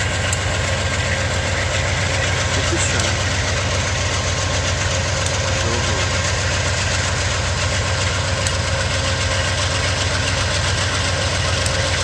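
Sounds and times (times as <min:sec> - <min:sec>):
diesel locomotives idling: 0:00.0 - 0:12.0.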